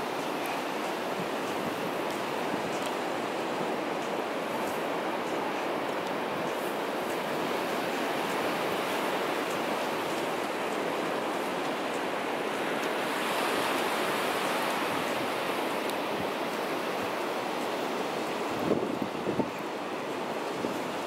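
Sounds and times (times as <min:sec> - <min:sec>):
sea surf breaking on beach: 0:00.0 - 0:21.0.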